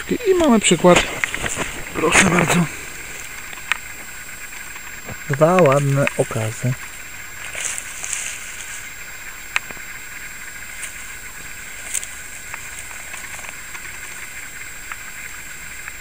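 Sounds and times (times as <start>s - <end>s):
grass and leaves rustling: 0.0s - 16.0s
sharp ticks: 0.0s - 16.0s
steady hiss: 0.0s - 16.0s.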